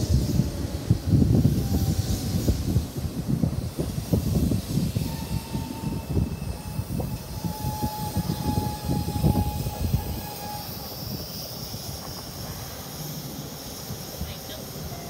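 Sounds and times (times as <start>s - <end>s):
electric train braking: 0.0s - 15.0s
train hum: 0.0s - 15.0s.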